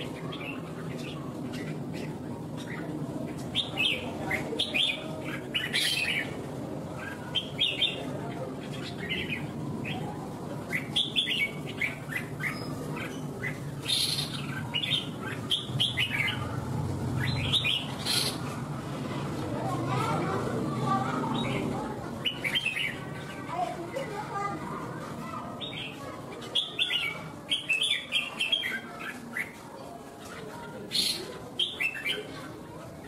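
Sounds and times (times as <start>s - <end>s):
bird singing warbling phrases: 0.0s - 16.6s, 17.2s - 18.6s, 21.2s - 24.0s, 25.2s - 29.6s, 30.3s - 32.8s.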